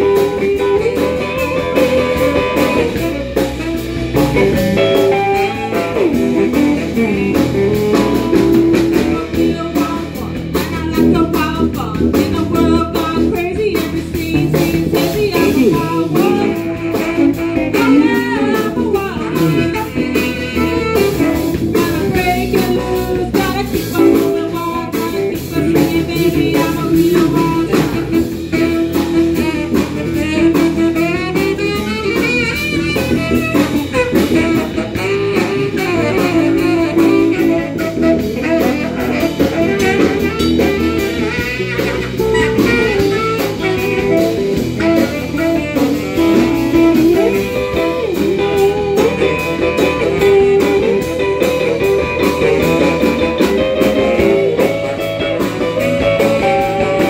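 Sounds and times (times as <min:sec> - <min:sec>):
bass guitar: 0:00.0 - 0:57.0
drum kit: 0:00.0 - 0:57.0
electric guitar: 0:00.0 - 0:57.0
saxophone: 0:00.0 - 0:57.0.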